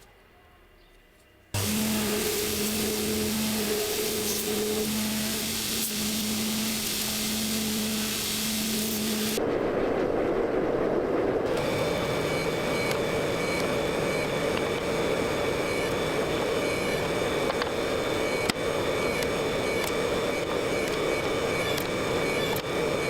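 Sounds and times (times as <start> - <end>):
loud mechanical roar: 1.6 - 9.5, 11.3 - 23.0
faint high whine: 1.6 - 23.0.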